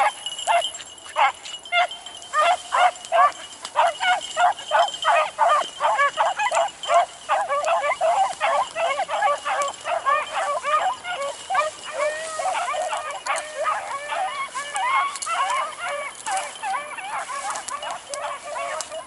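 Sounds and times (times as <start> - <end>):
beagles baying: 0.0 - 19.0.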